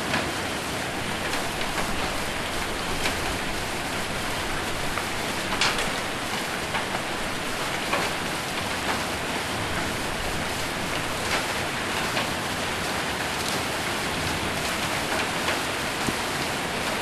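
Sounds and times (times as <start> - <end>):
hailstones hitting a roof: 0.0 - 17.0
heavy rain hissing: 0.0 - 17.0.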